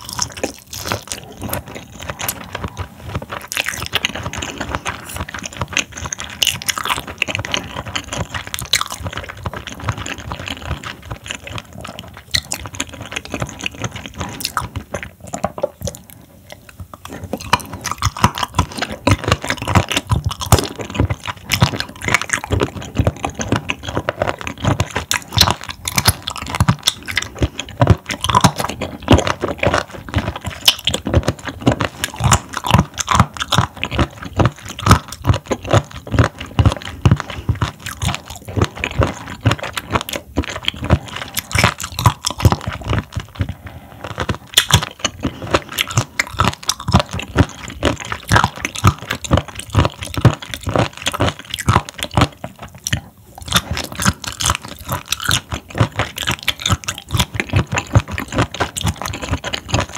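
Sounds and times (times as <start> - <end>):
wet crunchy chewing: 0.0 - 59.9.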